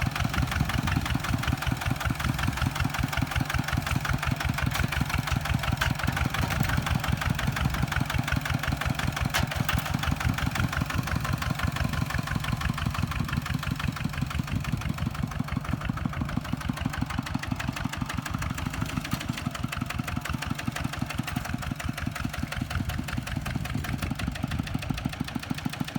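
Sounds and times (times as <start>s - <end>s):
tractor diesel engine chugging: 0.0s - 25.9s.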